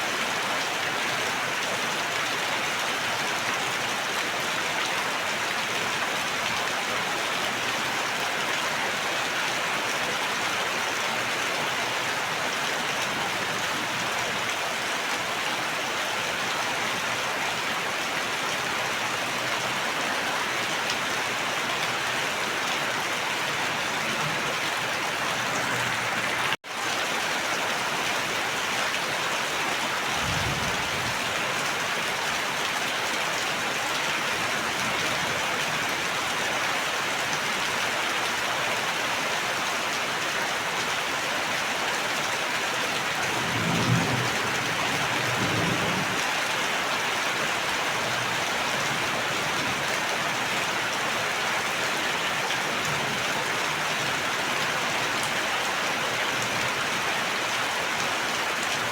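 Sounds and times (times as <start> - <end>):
heavy rain falling: 0.1 - 58.9.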